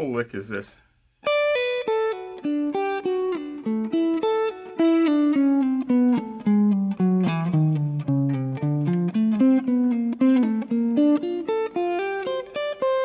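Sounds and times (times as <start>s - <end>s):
guitar single-note lead: 1.3s - 13.0s.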